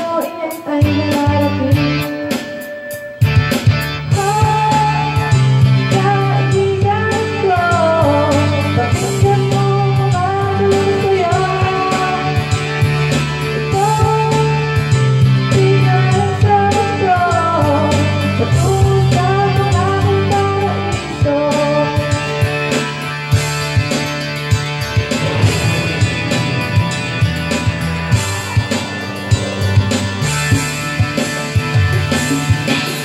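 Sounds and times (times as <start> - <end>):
song with bass and guitar: 0.0 - 33.0.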